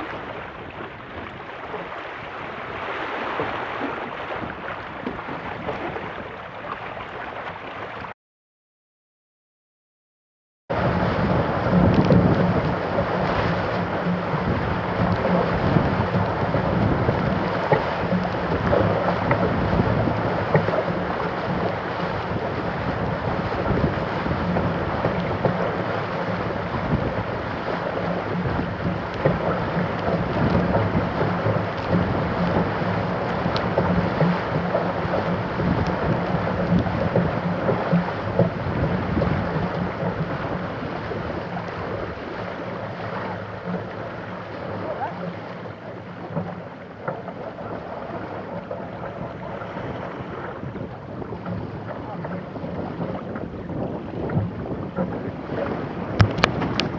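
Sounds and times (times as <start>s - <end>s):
wind buffeting microphone: 0.0s - 8.1s, 10.7s - 56.9s
water splashing along hulls: 0.0s - 8.2s, 10.7s - 56.9s.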